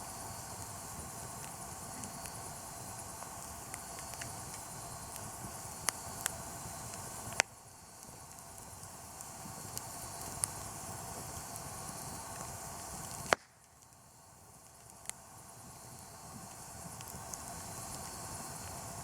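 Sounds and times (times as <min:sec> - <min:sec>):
campfire crackling and popping: 0:00.1 - 0:19.0.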